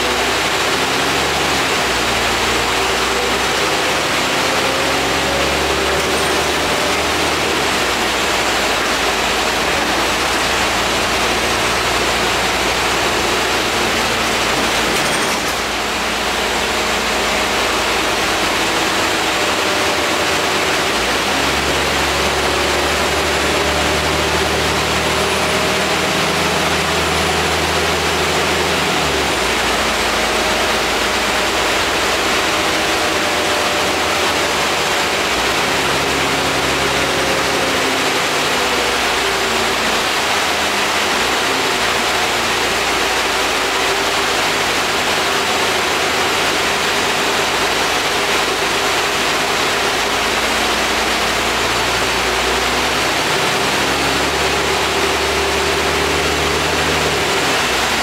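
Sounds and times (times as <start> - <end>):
diesel engine humming: 0.0 - 58.0
road noise: 0.0 - 58.0.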